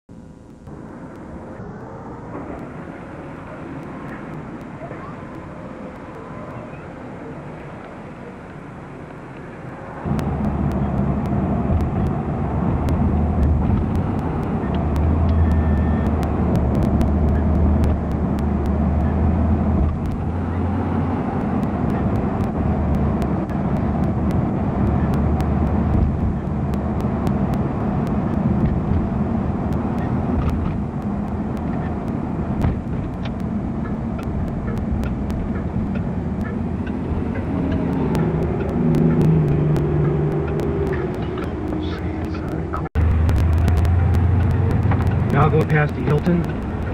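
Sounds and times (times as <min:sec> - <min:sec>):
car engine and road rumble: 0:00.1 - 0:46.9.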